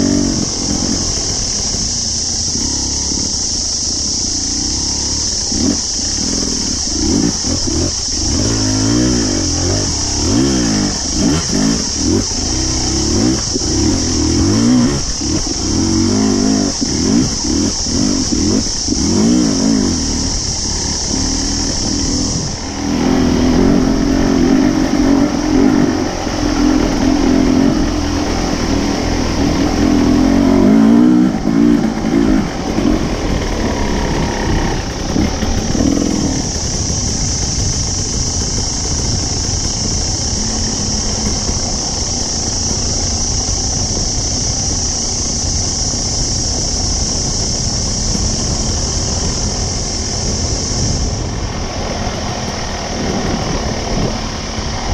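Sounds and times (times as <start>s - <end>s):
dirt bike engine revving: 0.0s - 54.9s
steady high hiss: 0.0s - 54.9s.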